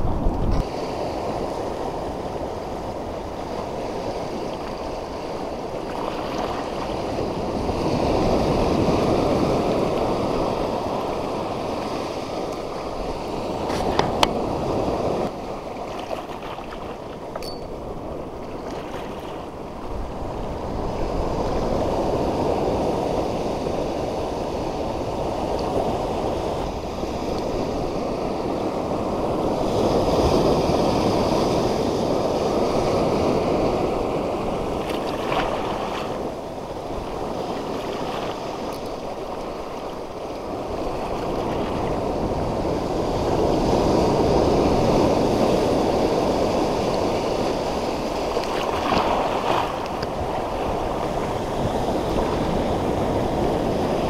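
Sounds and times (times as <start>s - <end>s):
ocean surf washing: 0.0s - 54.0s.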